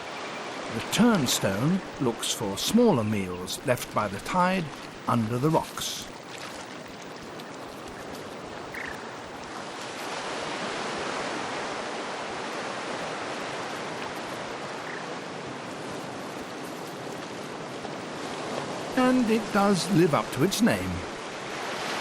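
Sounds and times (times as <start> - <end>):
surf washing over rocks: 0.0 - 22.0.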